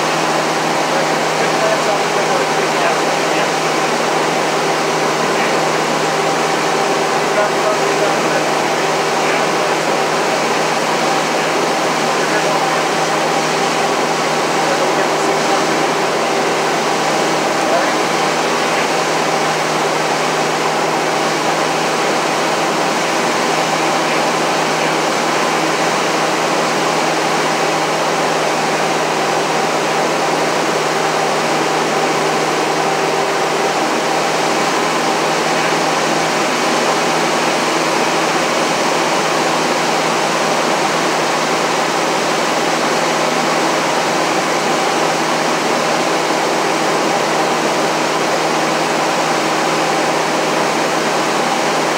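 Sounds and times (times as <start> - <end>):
airplane engine and propeller drone: 0.0 - 51.9.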